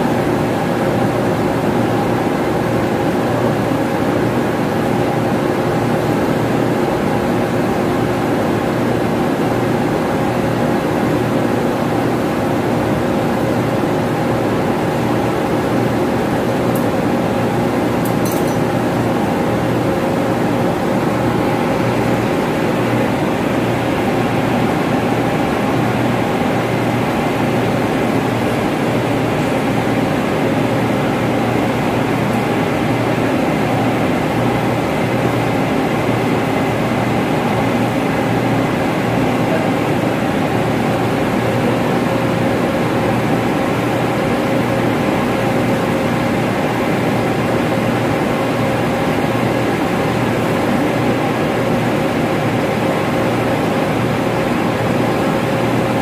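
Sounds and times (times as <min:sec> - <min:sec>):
ventilation machinery drone: 0:00.0 - 0:56.0.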